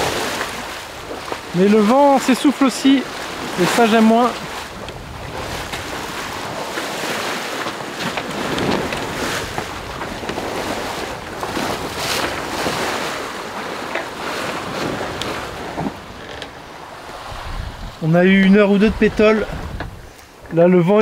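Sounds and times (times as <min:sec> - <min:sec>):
water splashing along boat hull: 0:00.0 - 0:21.0
wind buffeting microphone: 0:00.0 - 0:21.0.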